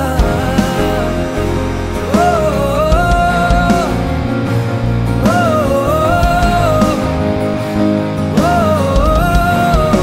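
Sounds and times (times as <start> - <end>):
instrumental film song music: 0.0 - 10.0.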